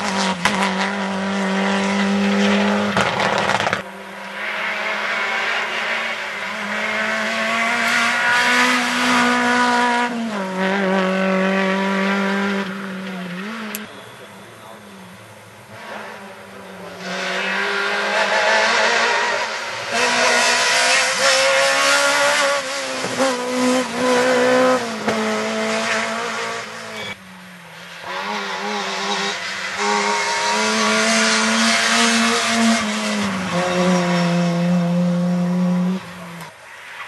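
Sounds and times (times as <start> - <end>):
rally car engines at high revs: 0.0 - 14.0, 15.6 - 37.0.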